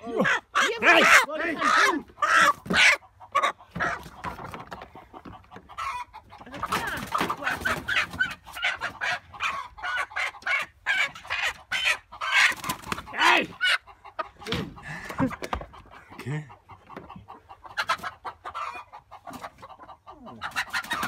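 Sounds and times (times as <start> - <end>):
chickens clucking and squawking: 0.0 - 21.0.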